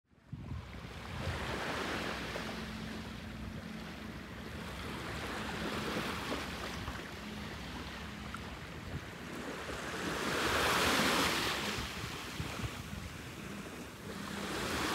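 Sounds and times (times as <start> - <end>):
wind rumble on microphone: 0.1 - 14.9
small waves washing onto beach: 0.5 - 14.9.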